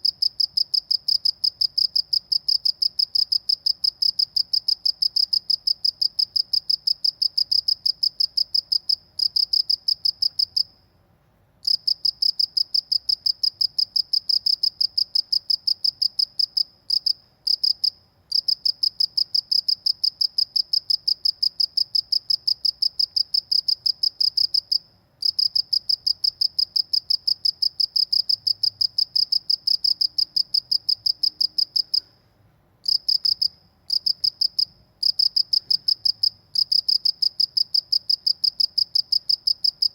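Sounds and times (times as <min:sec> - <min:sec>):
cricket chirping: 0:00.0 - 0:10.9, 0:11.6 - 0:32.2, 0:32.8 - 0:39.9.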